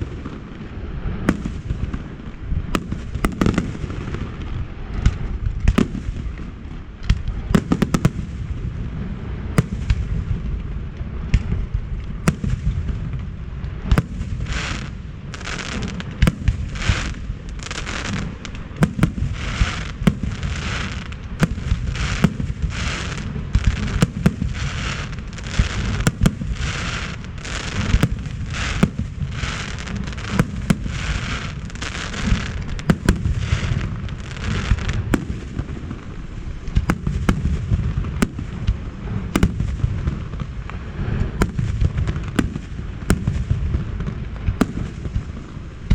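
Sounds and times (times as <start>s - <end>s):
fireworks booming and cracking: 0.0s - 45.9s
fireworks hissing bursts: 0.0s - 45.9s.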